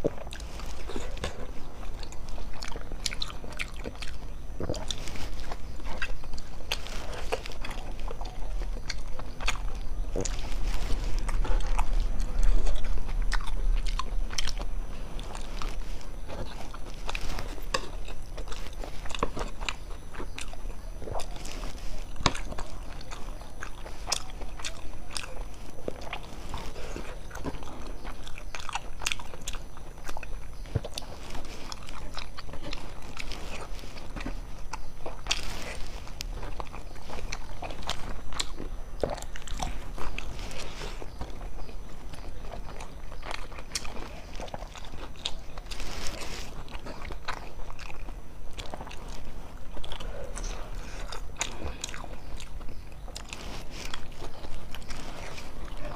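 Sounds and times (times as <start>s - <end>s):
person chewing and biting food: 0.0s - 55.9s
wet mouth clicks and crunches: 0.0s - 55.9s.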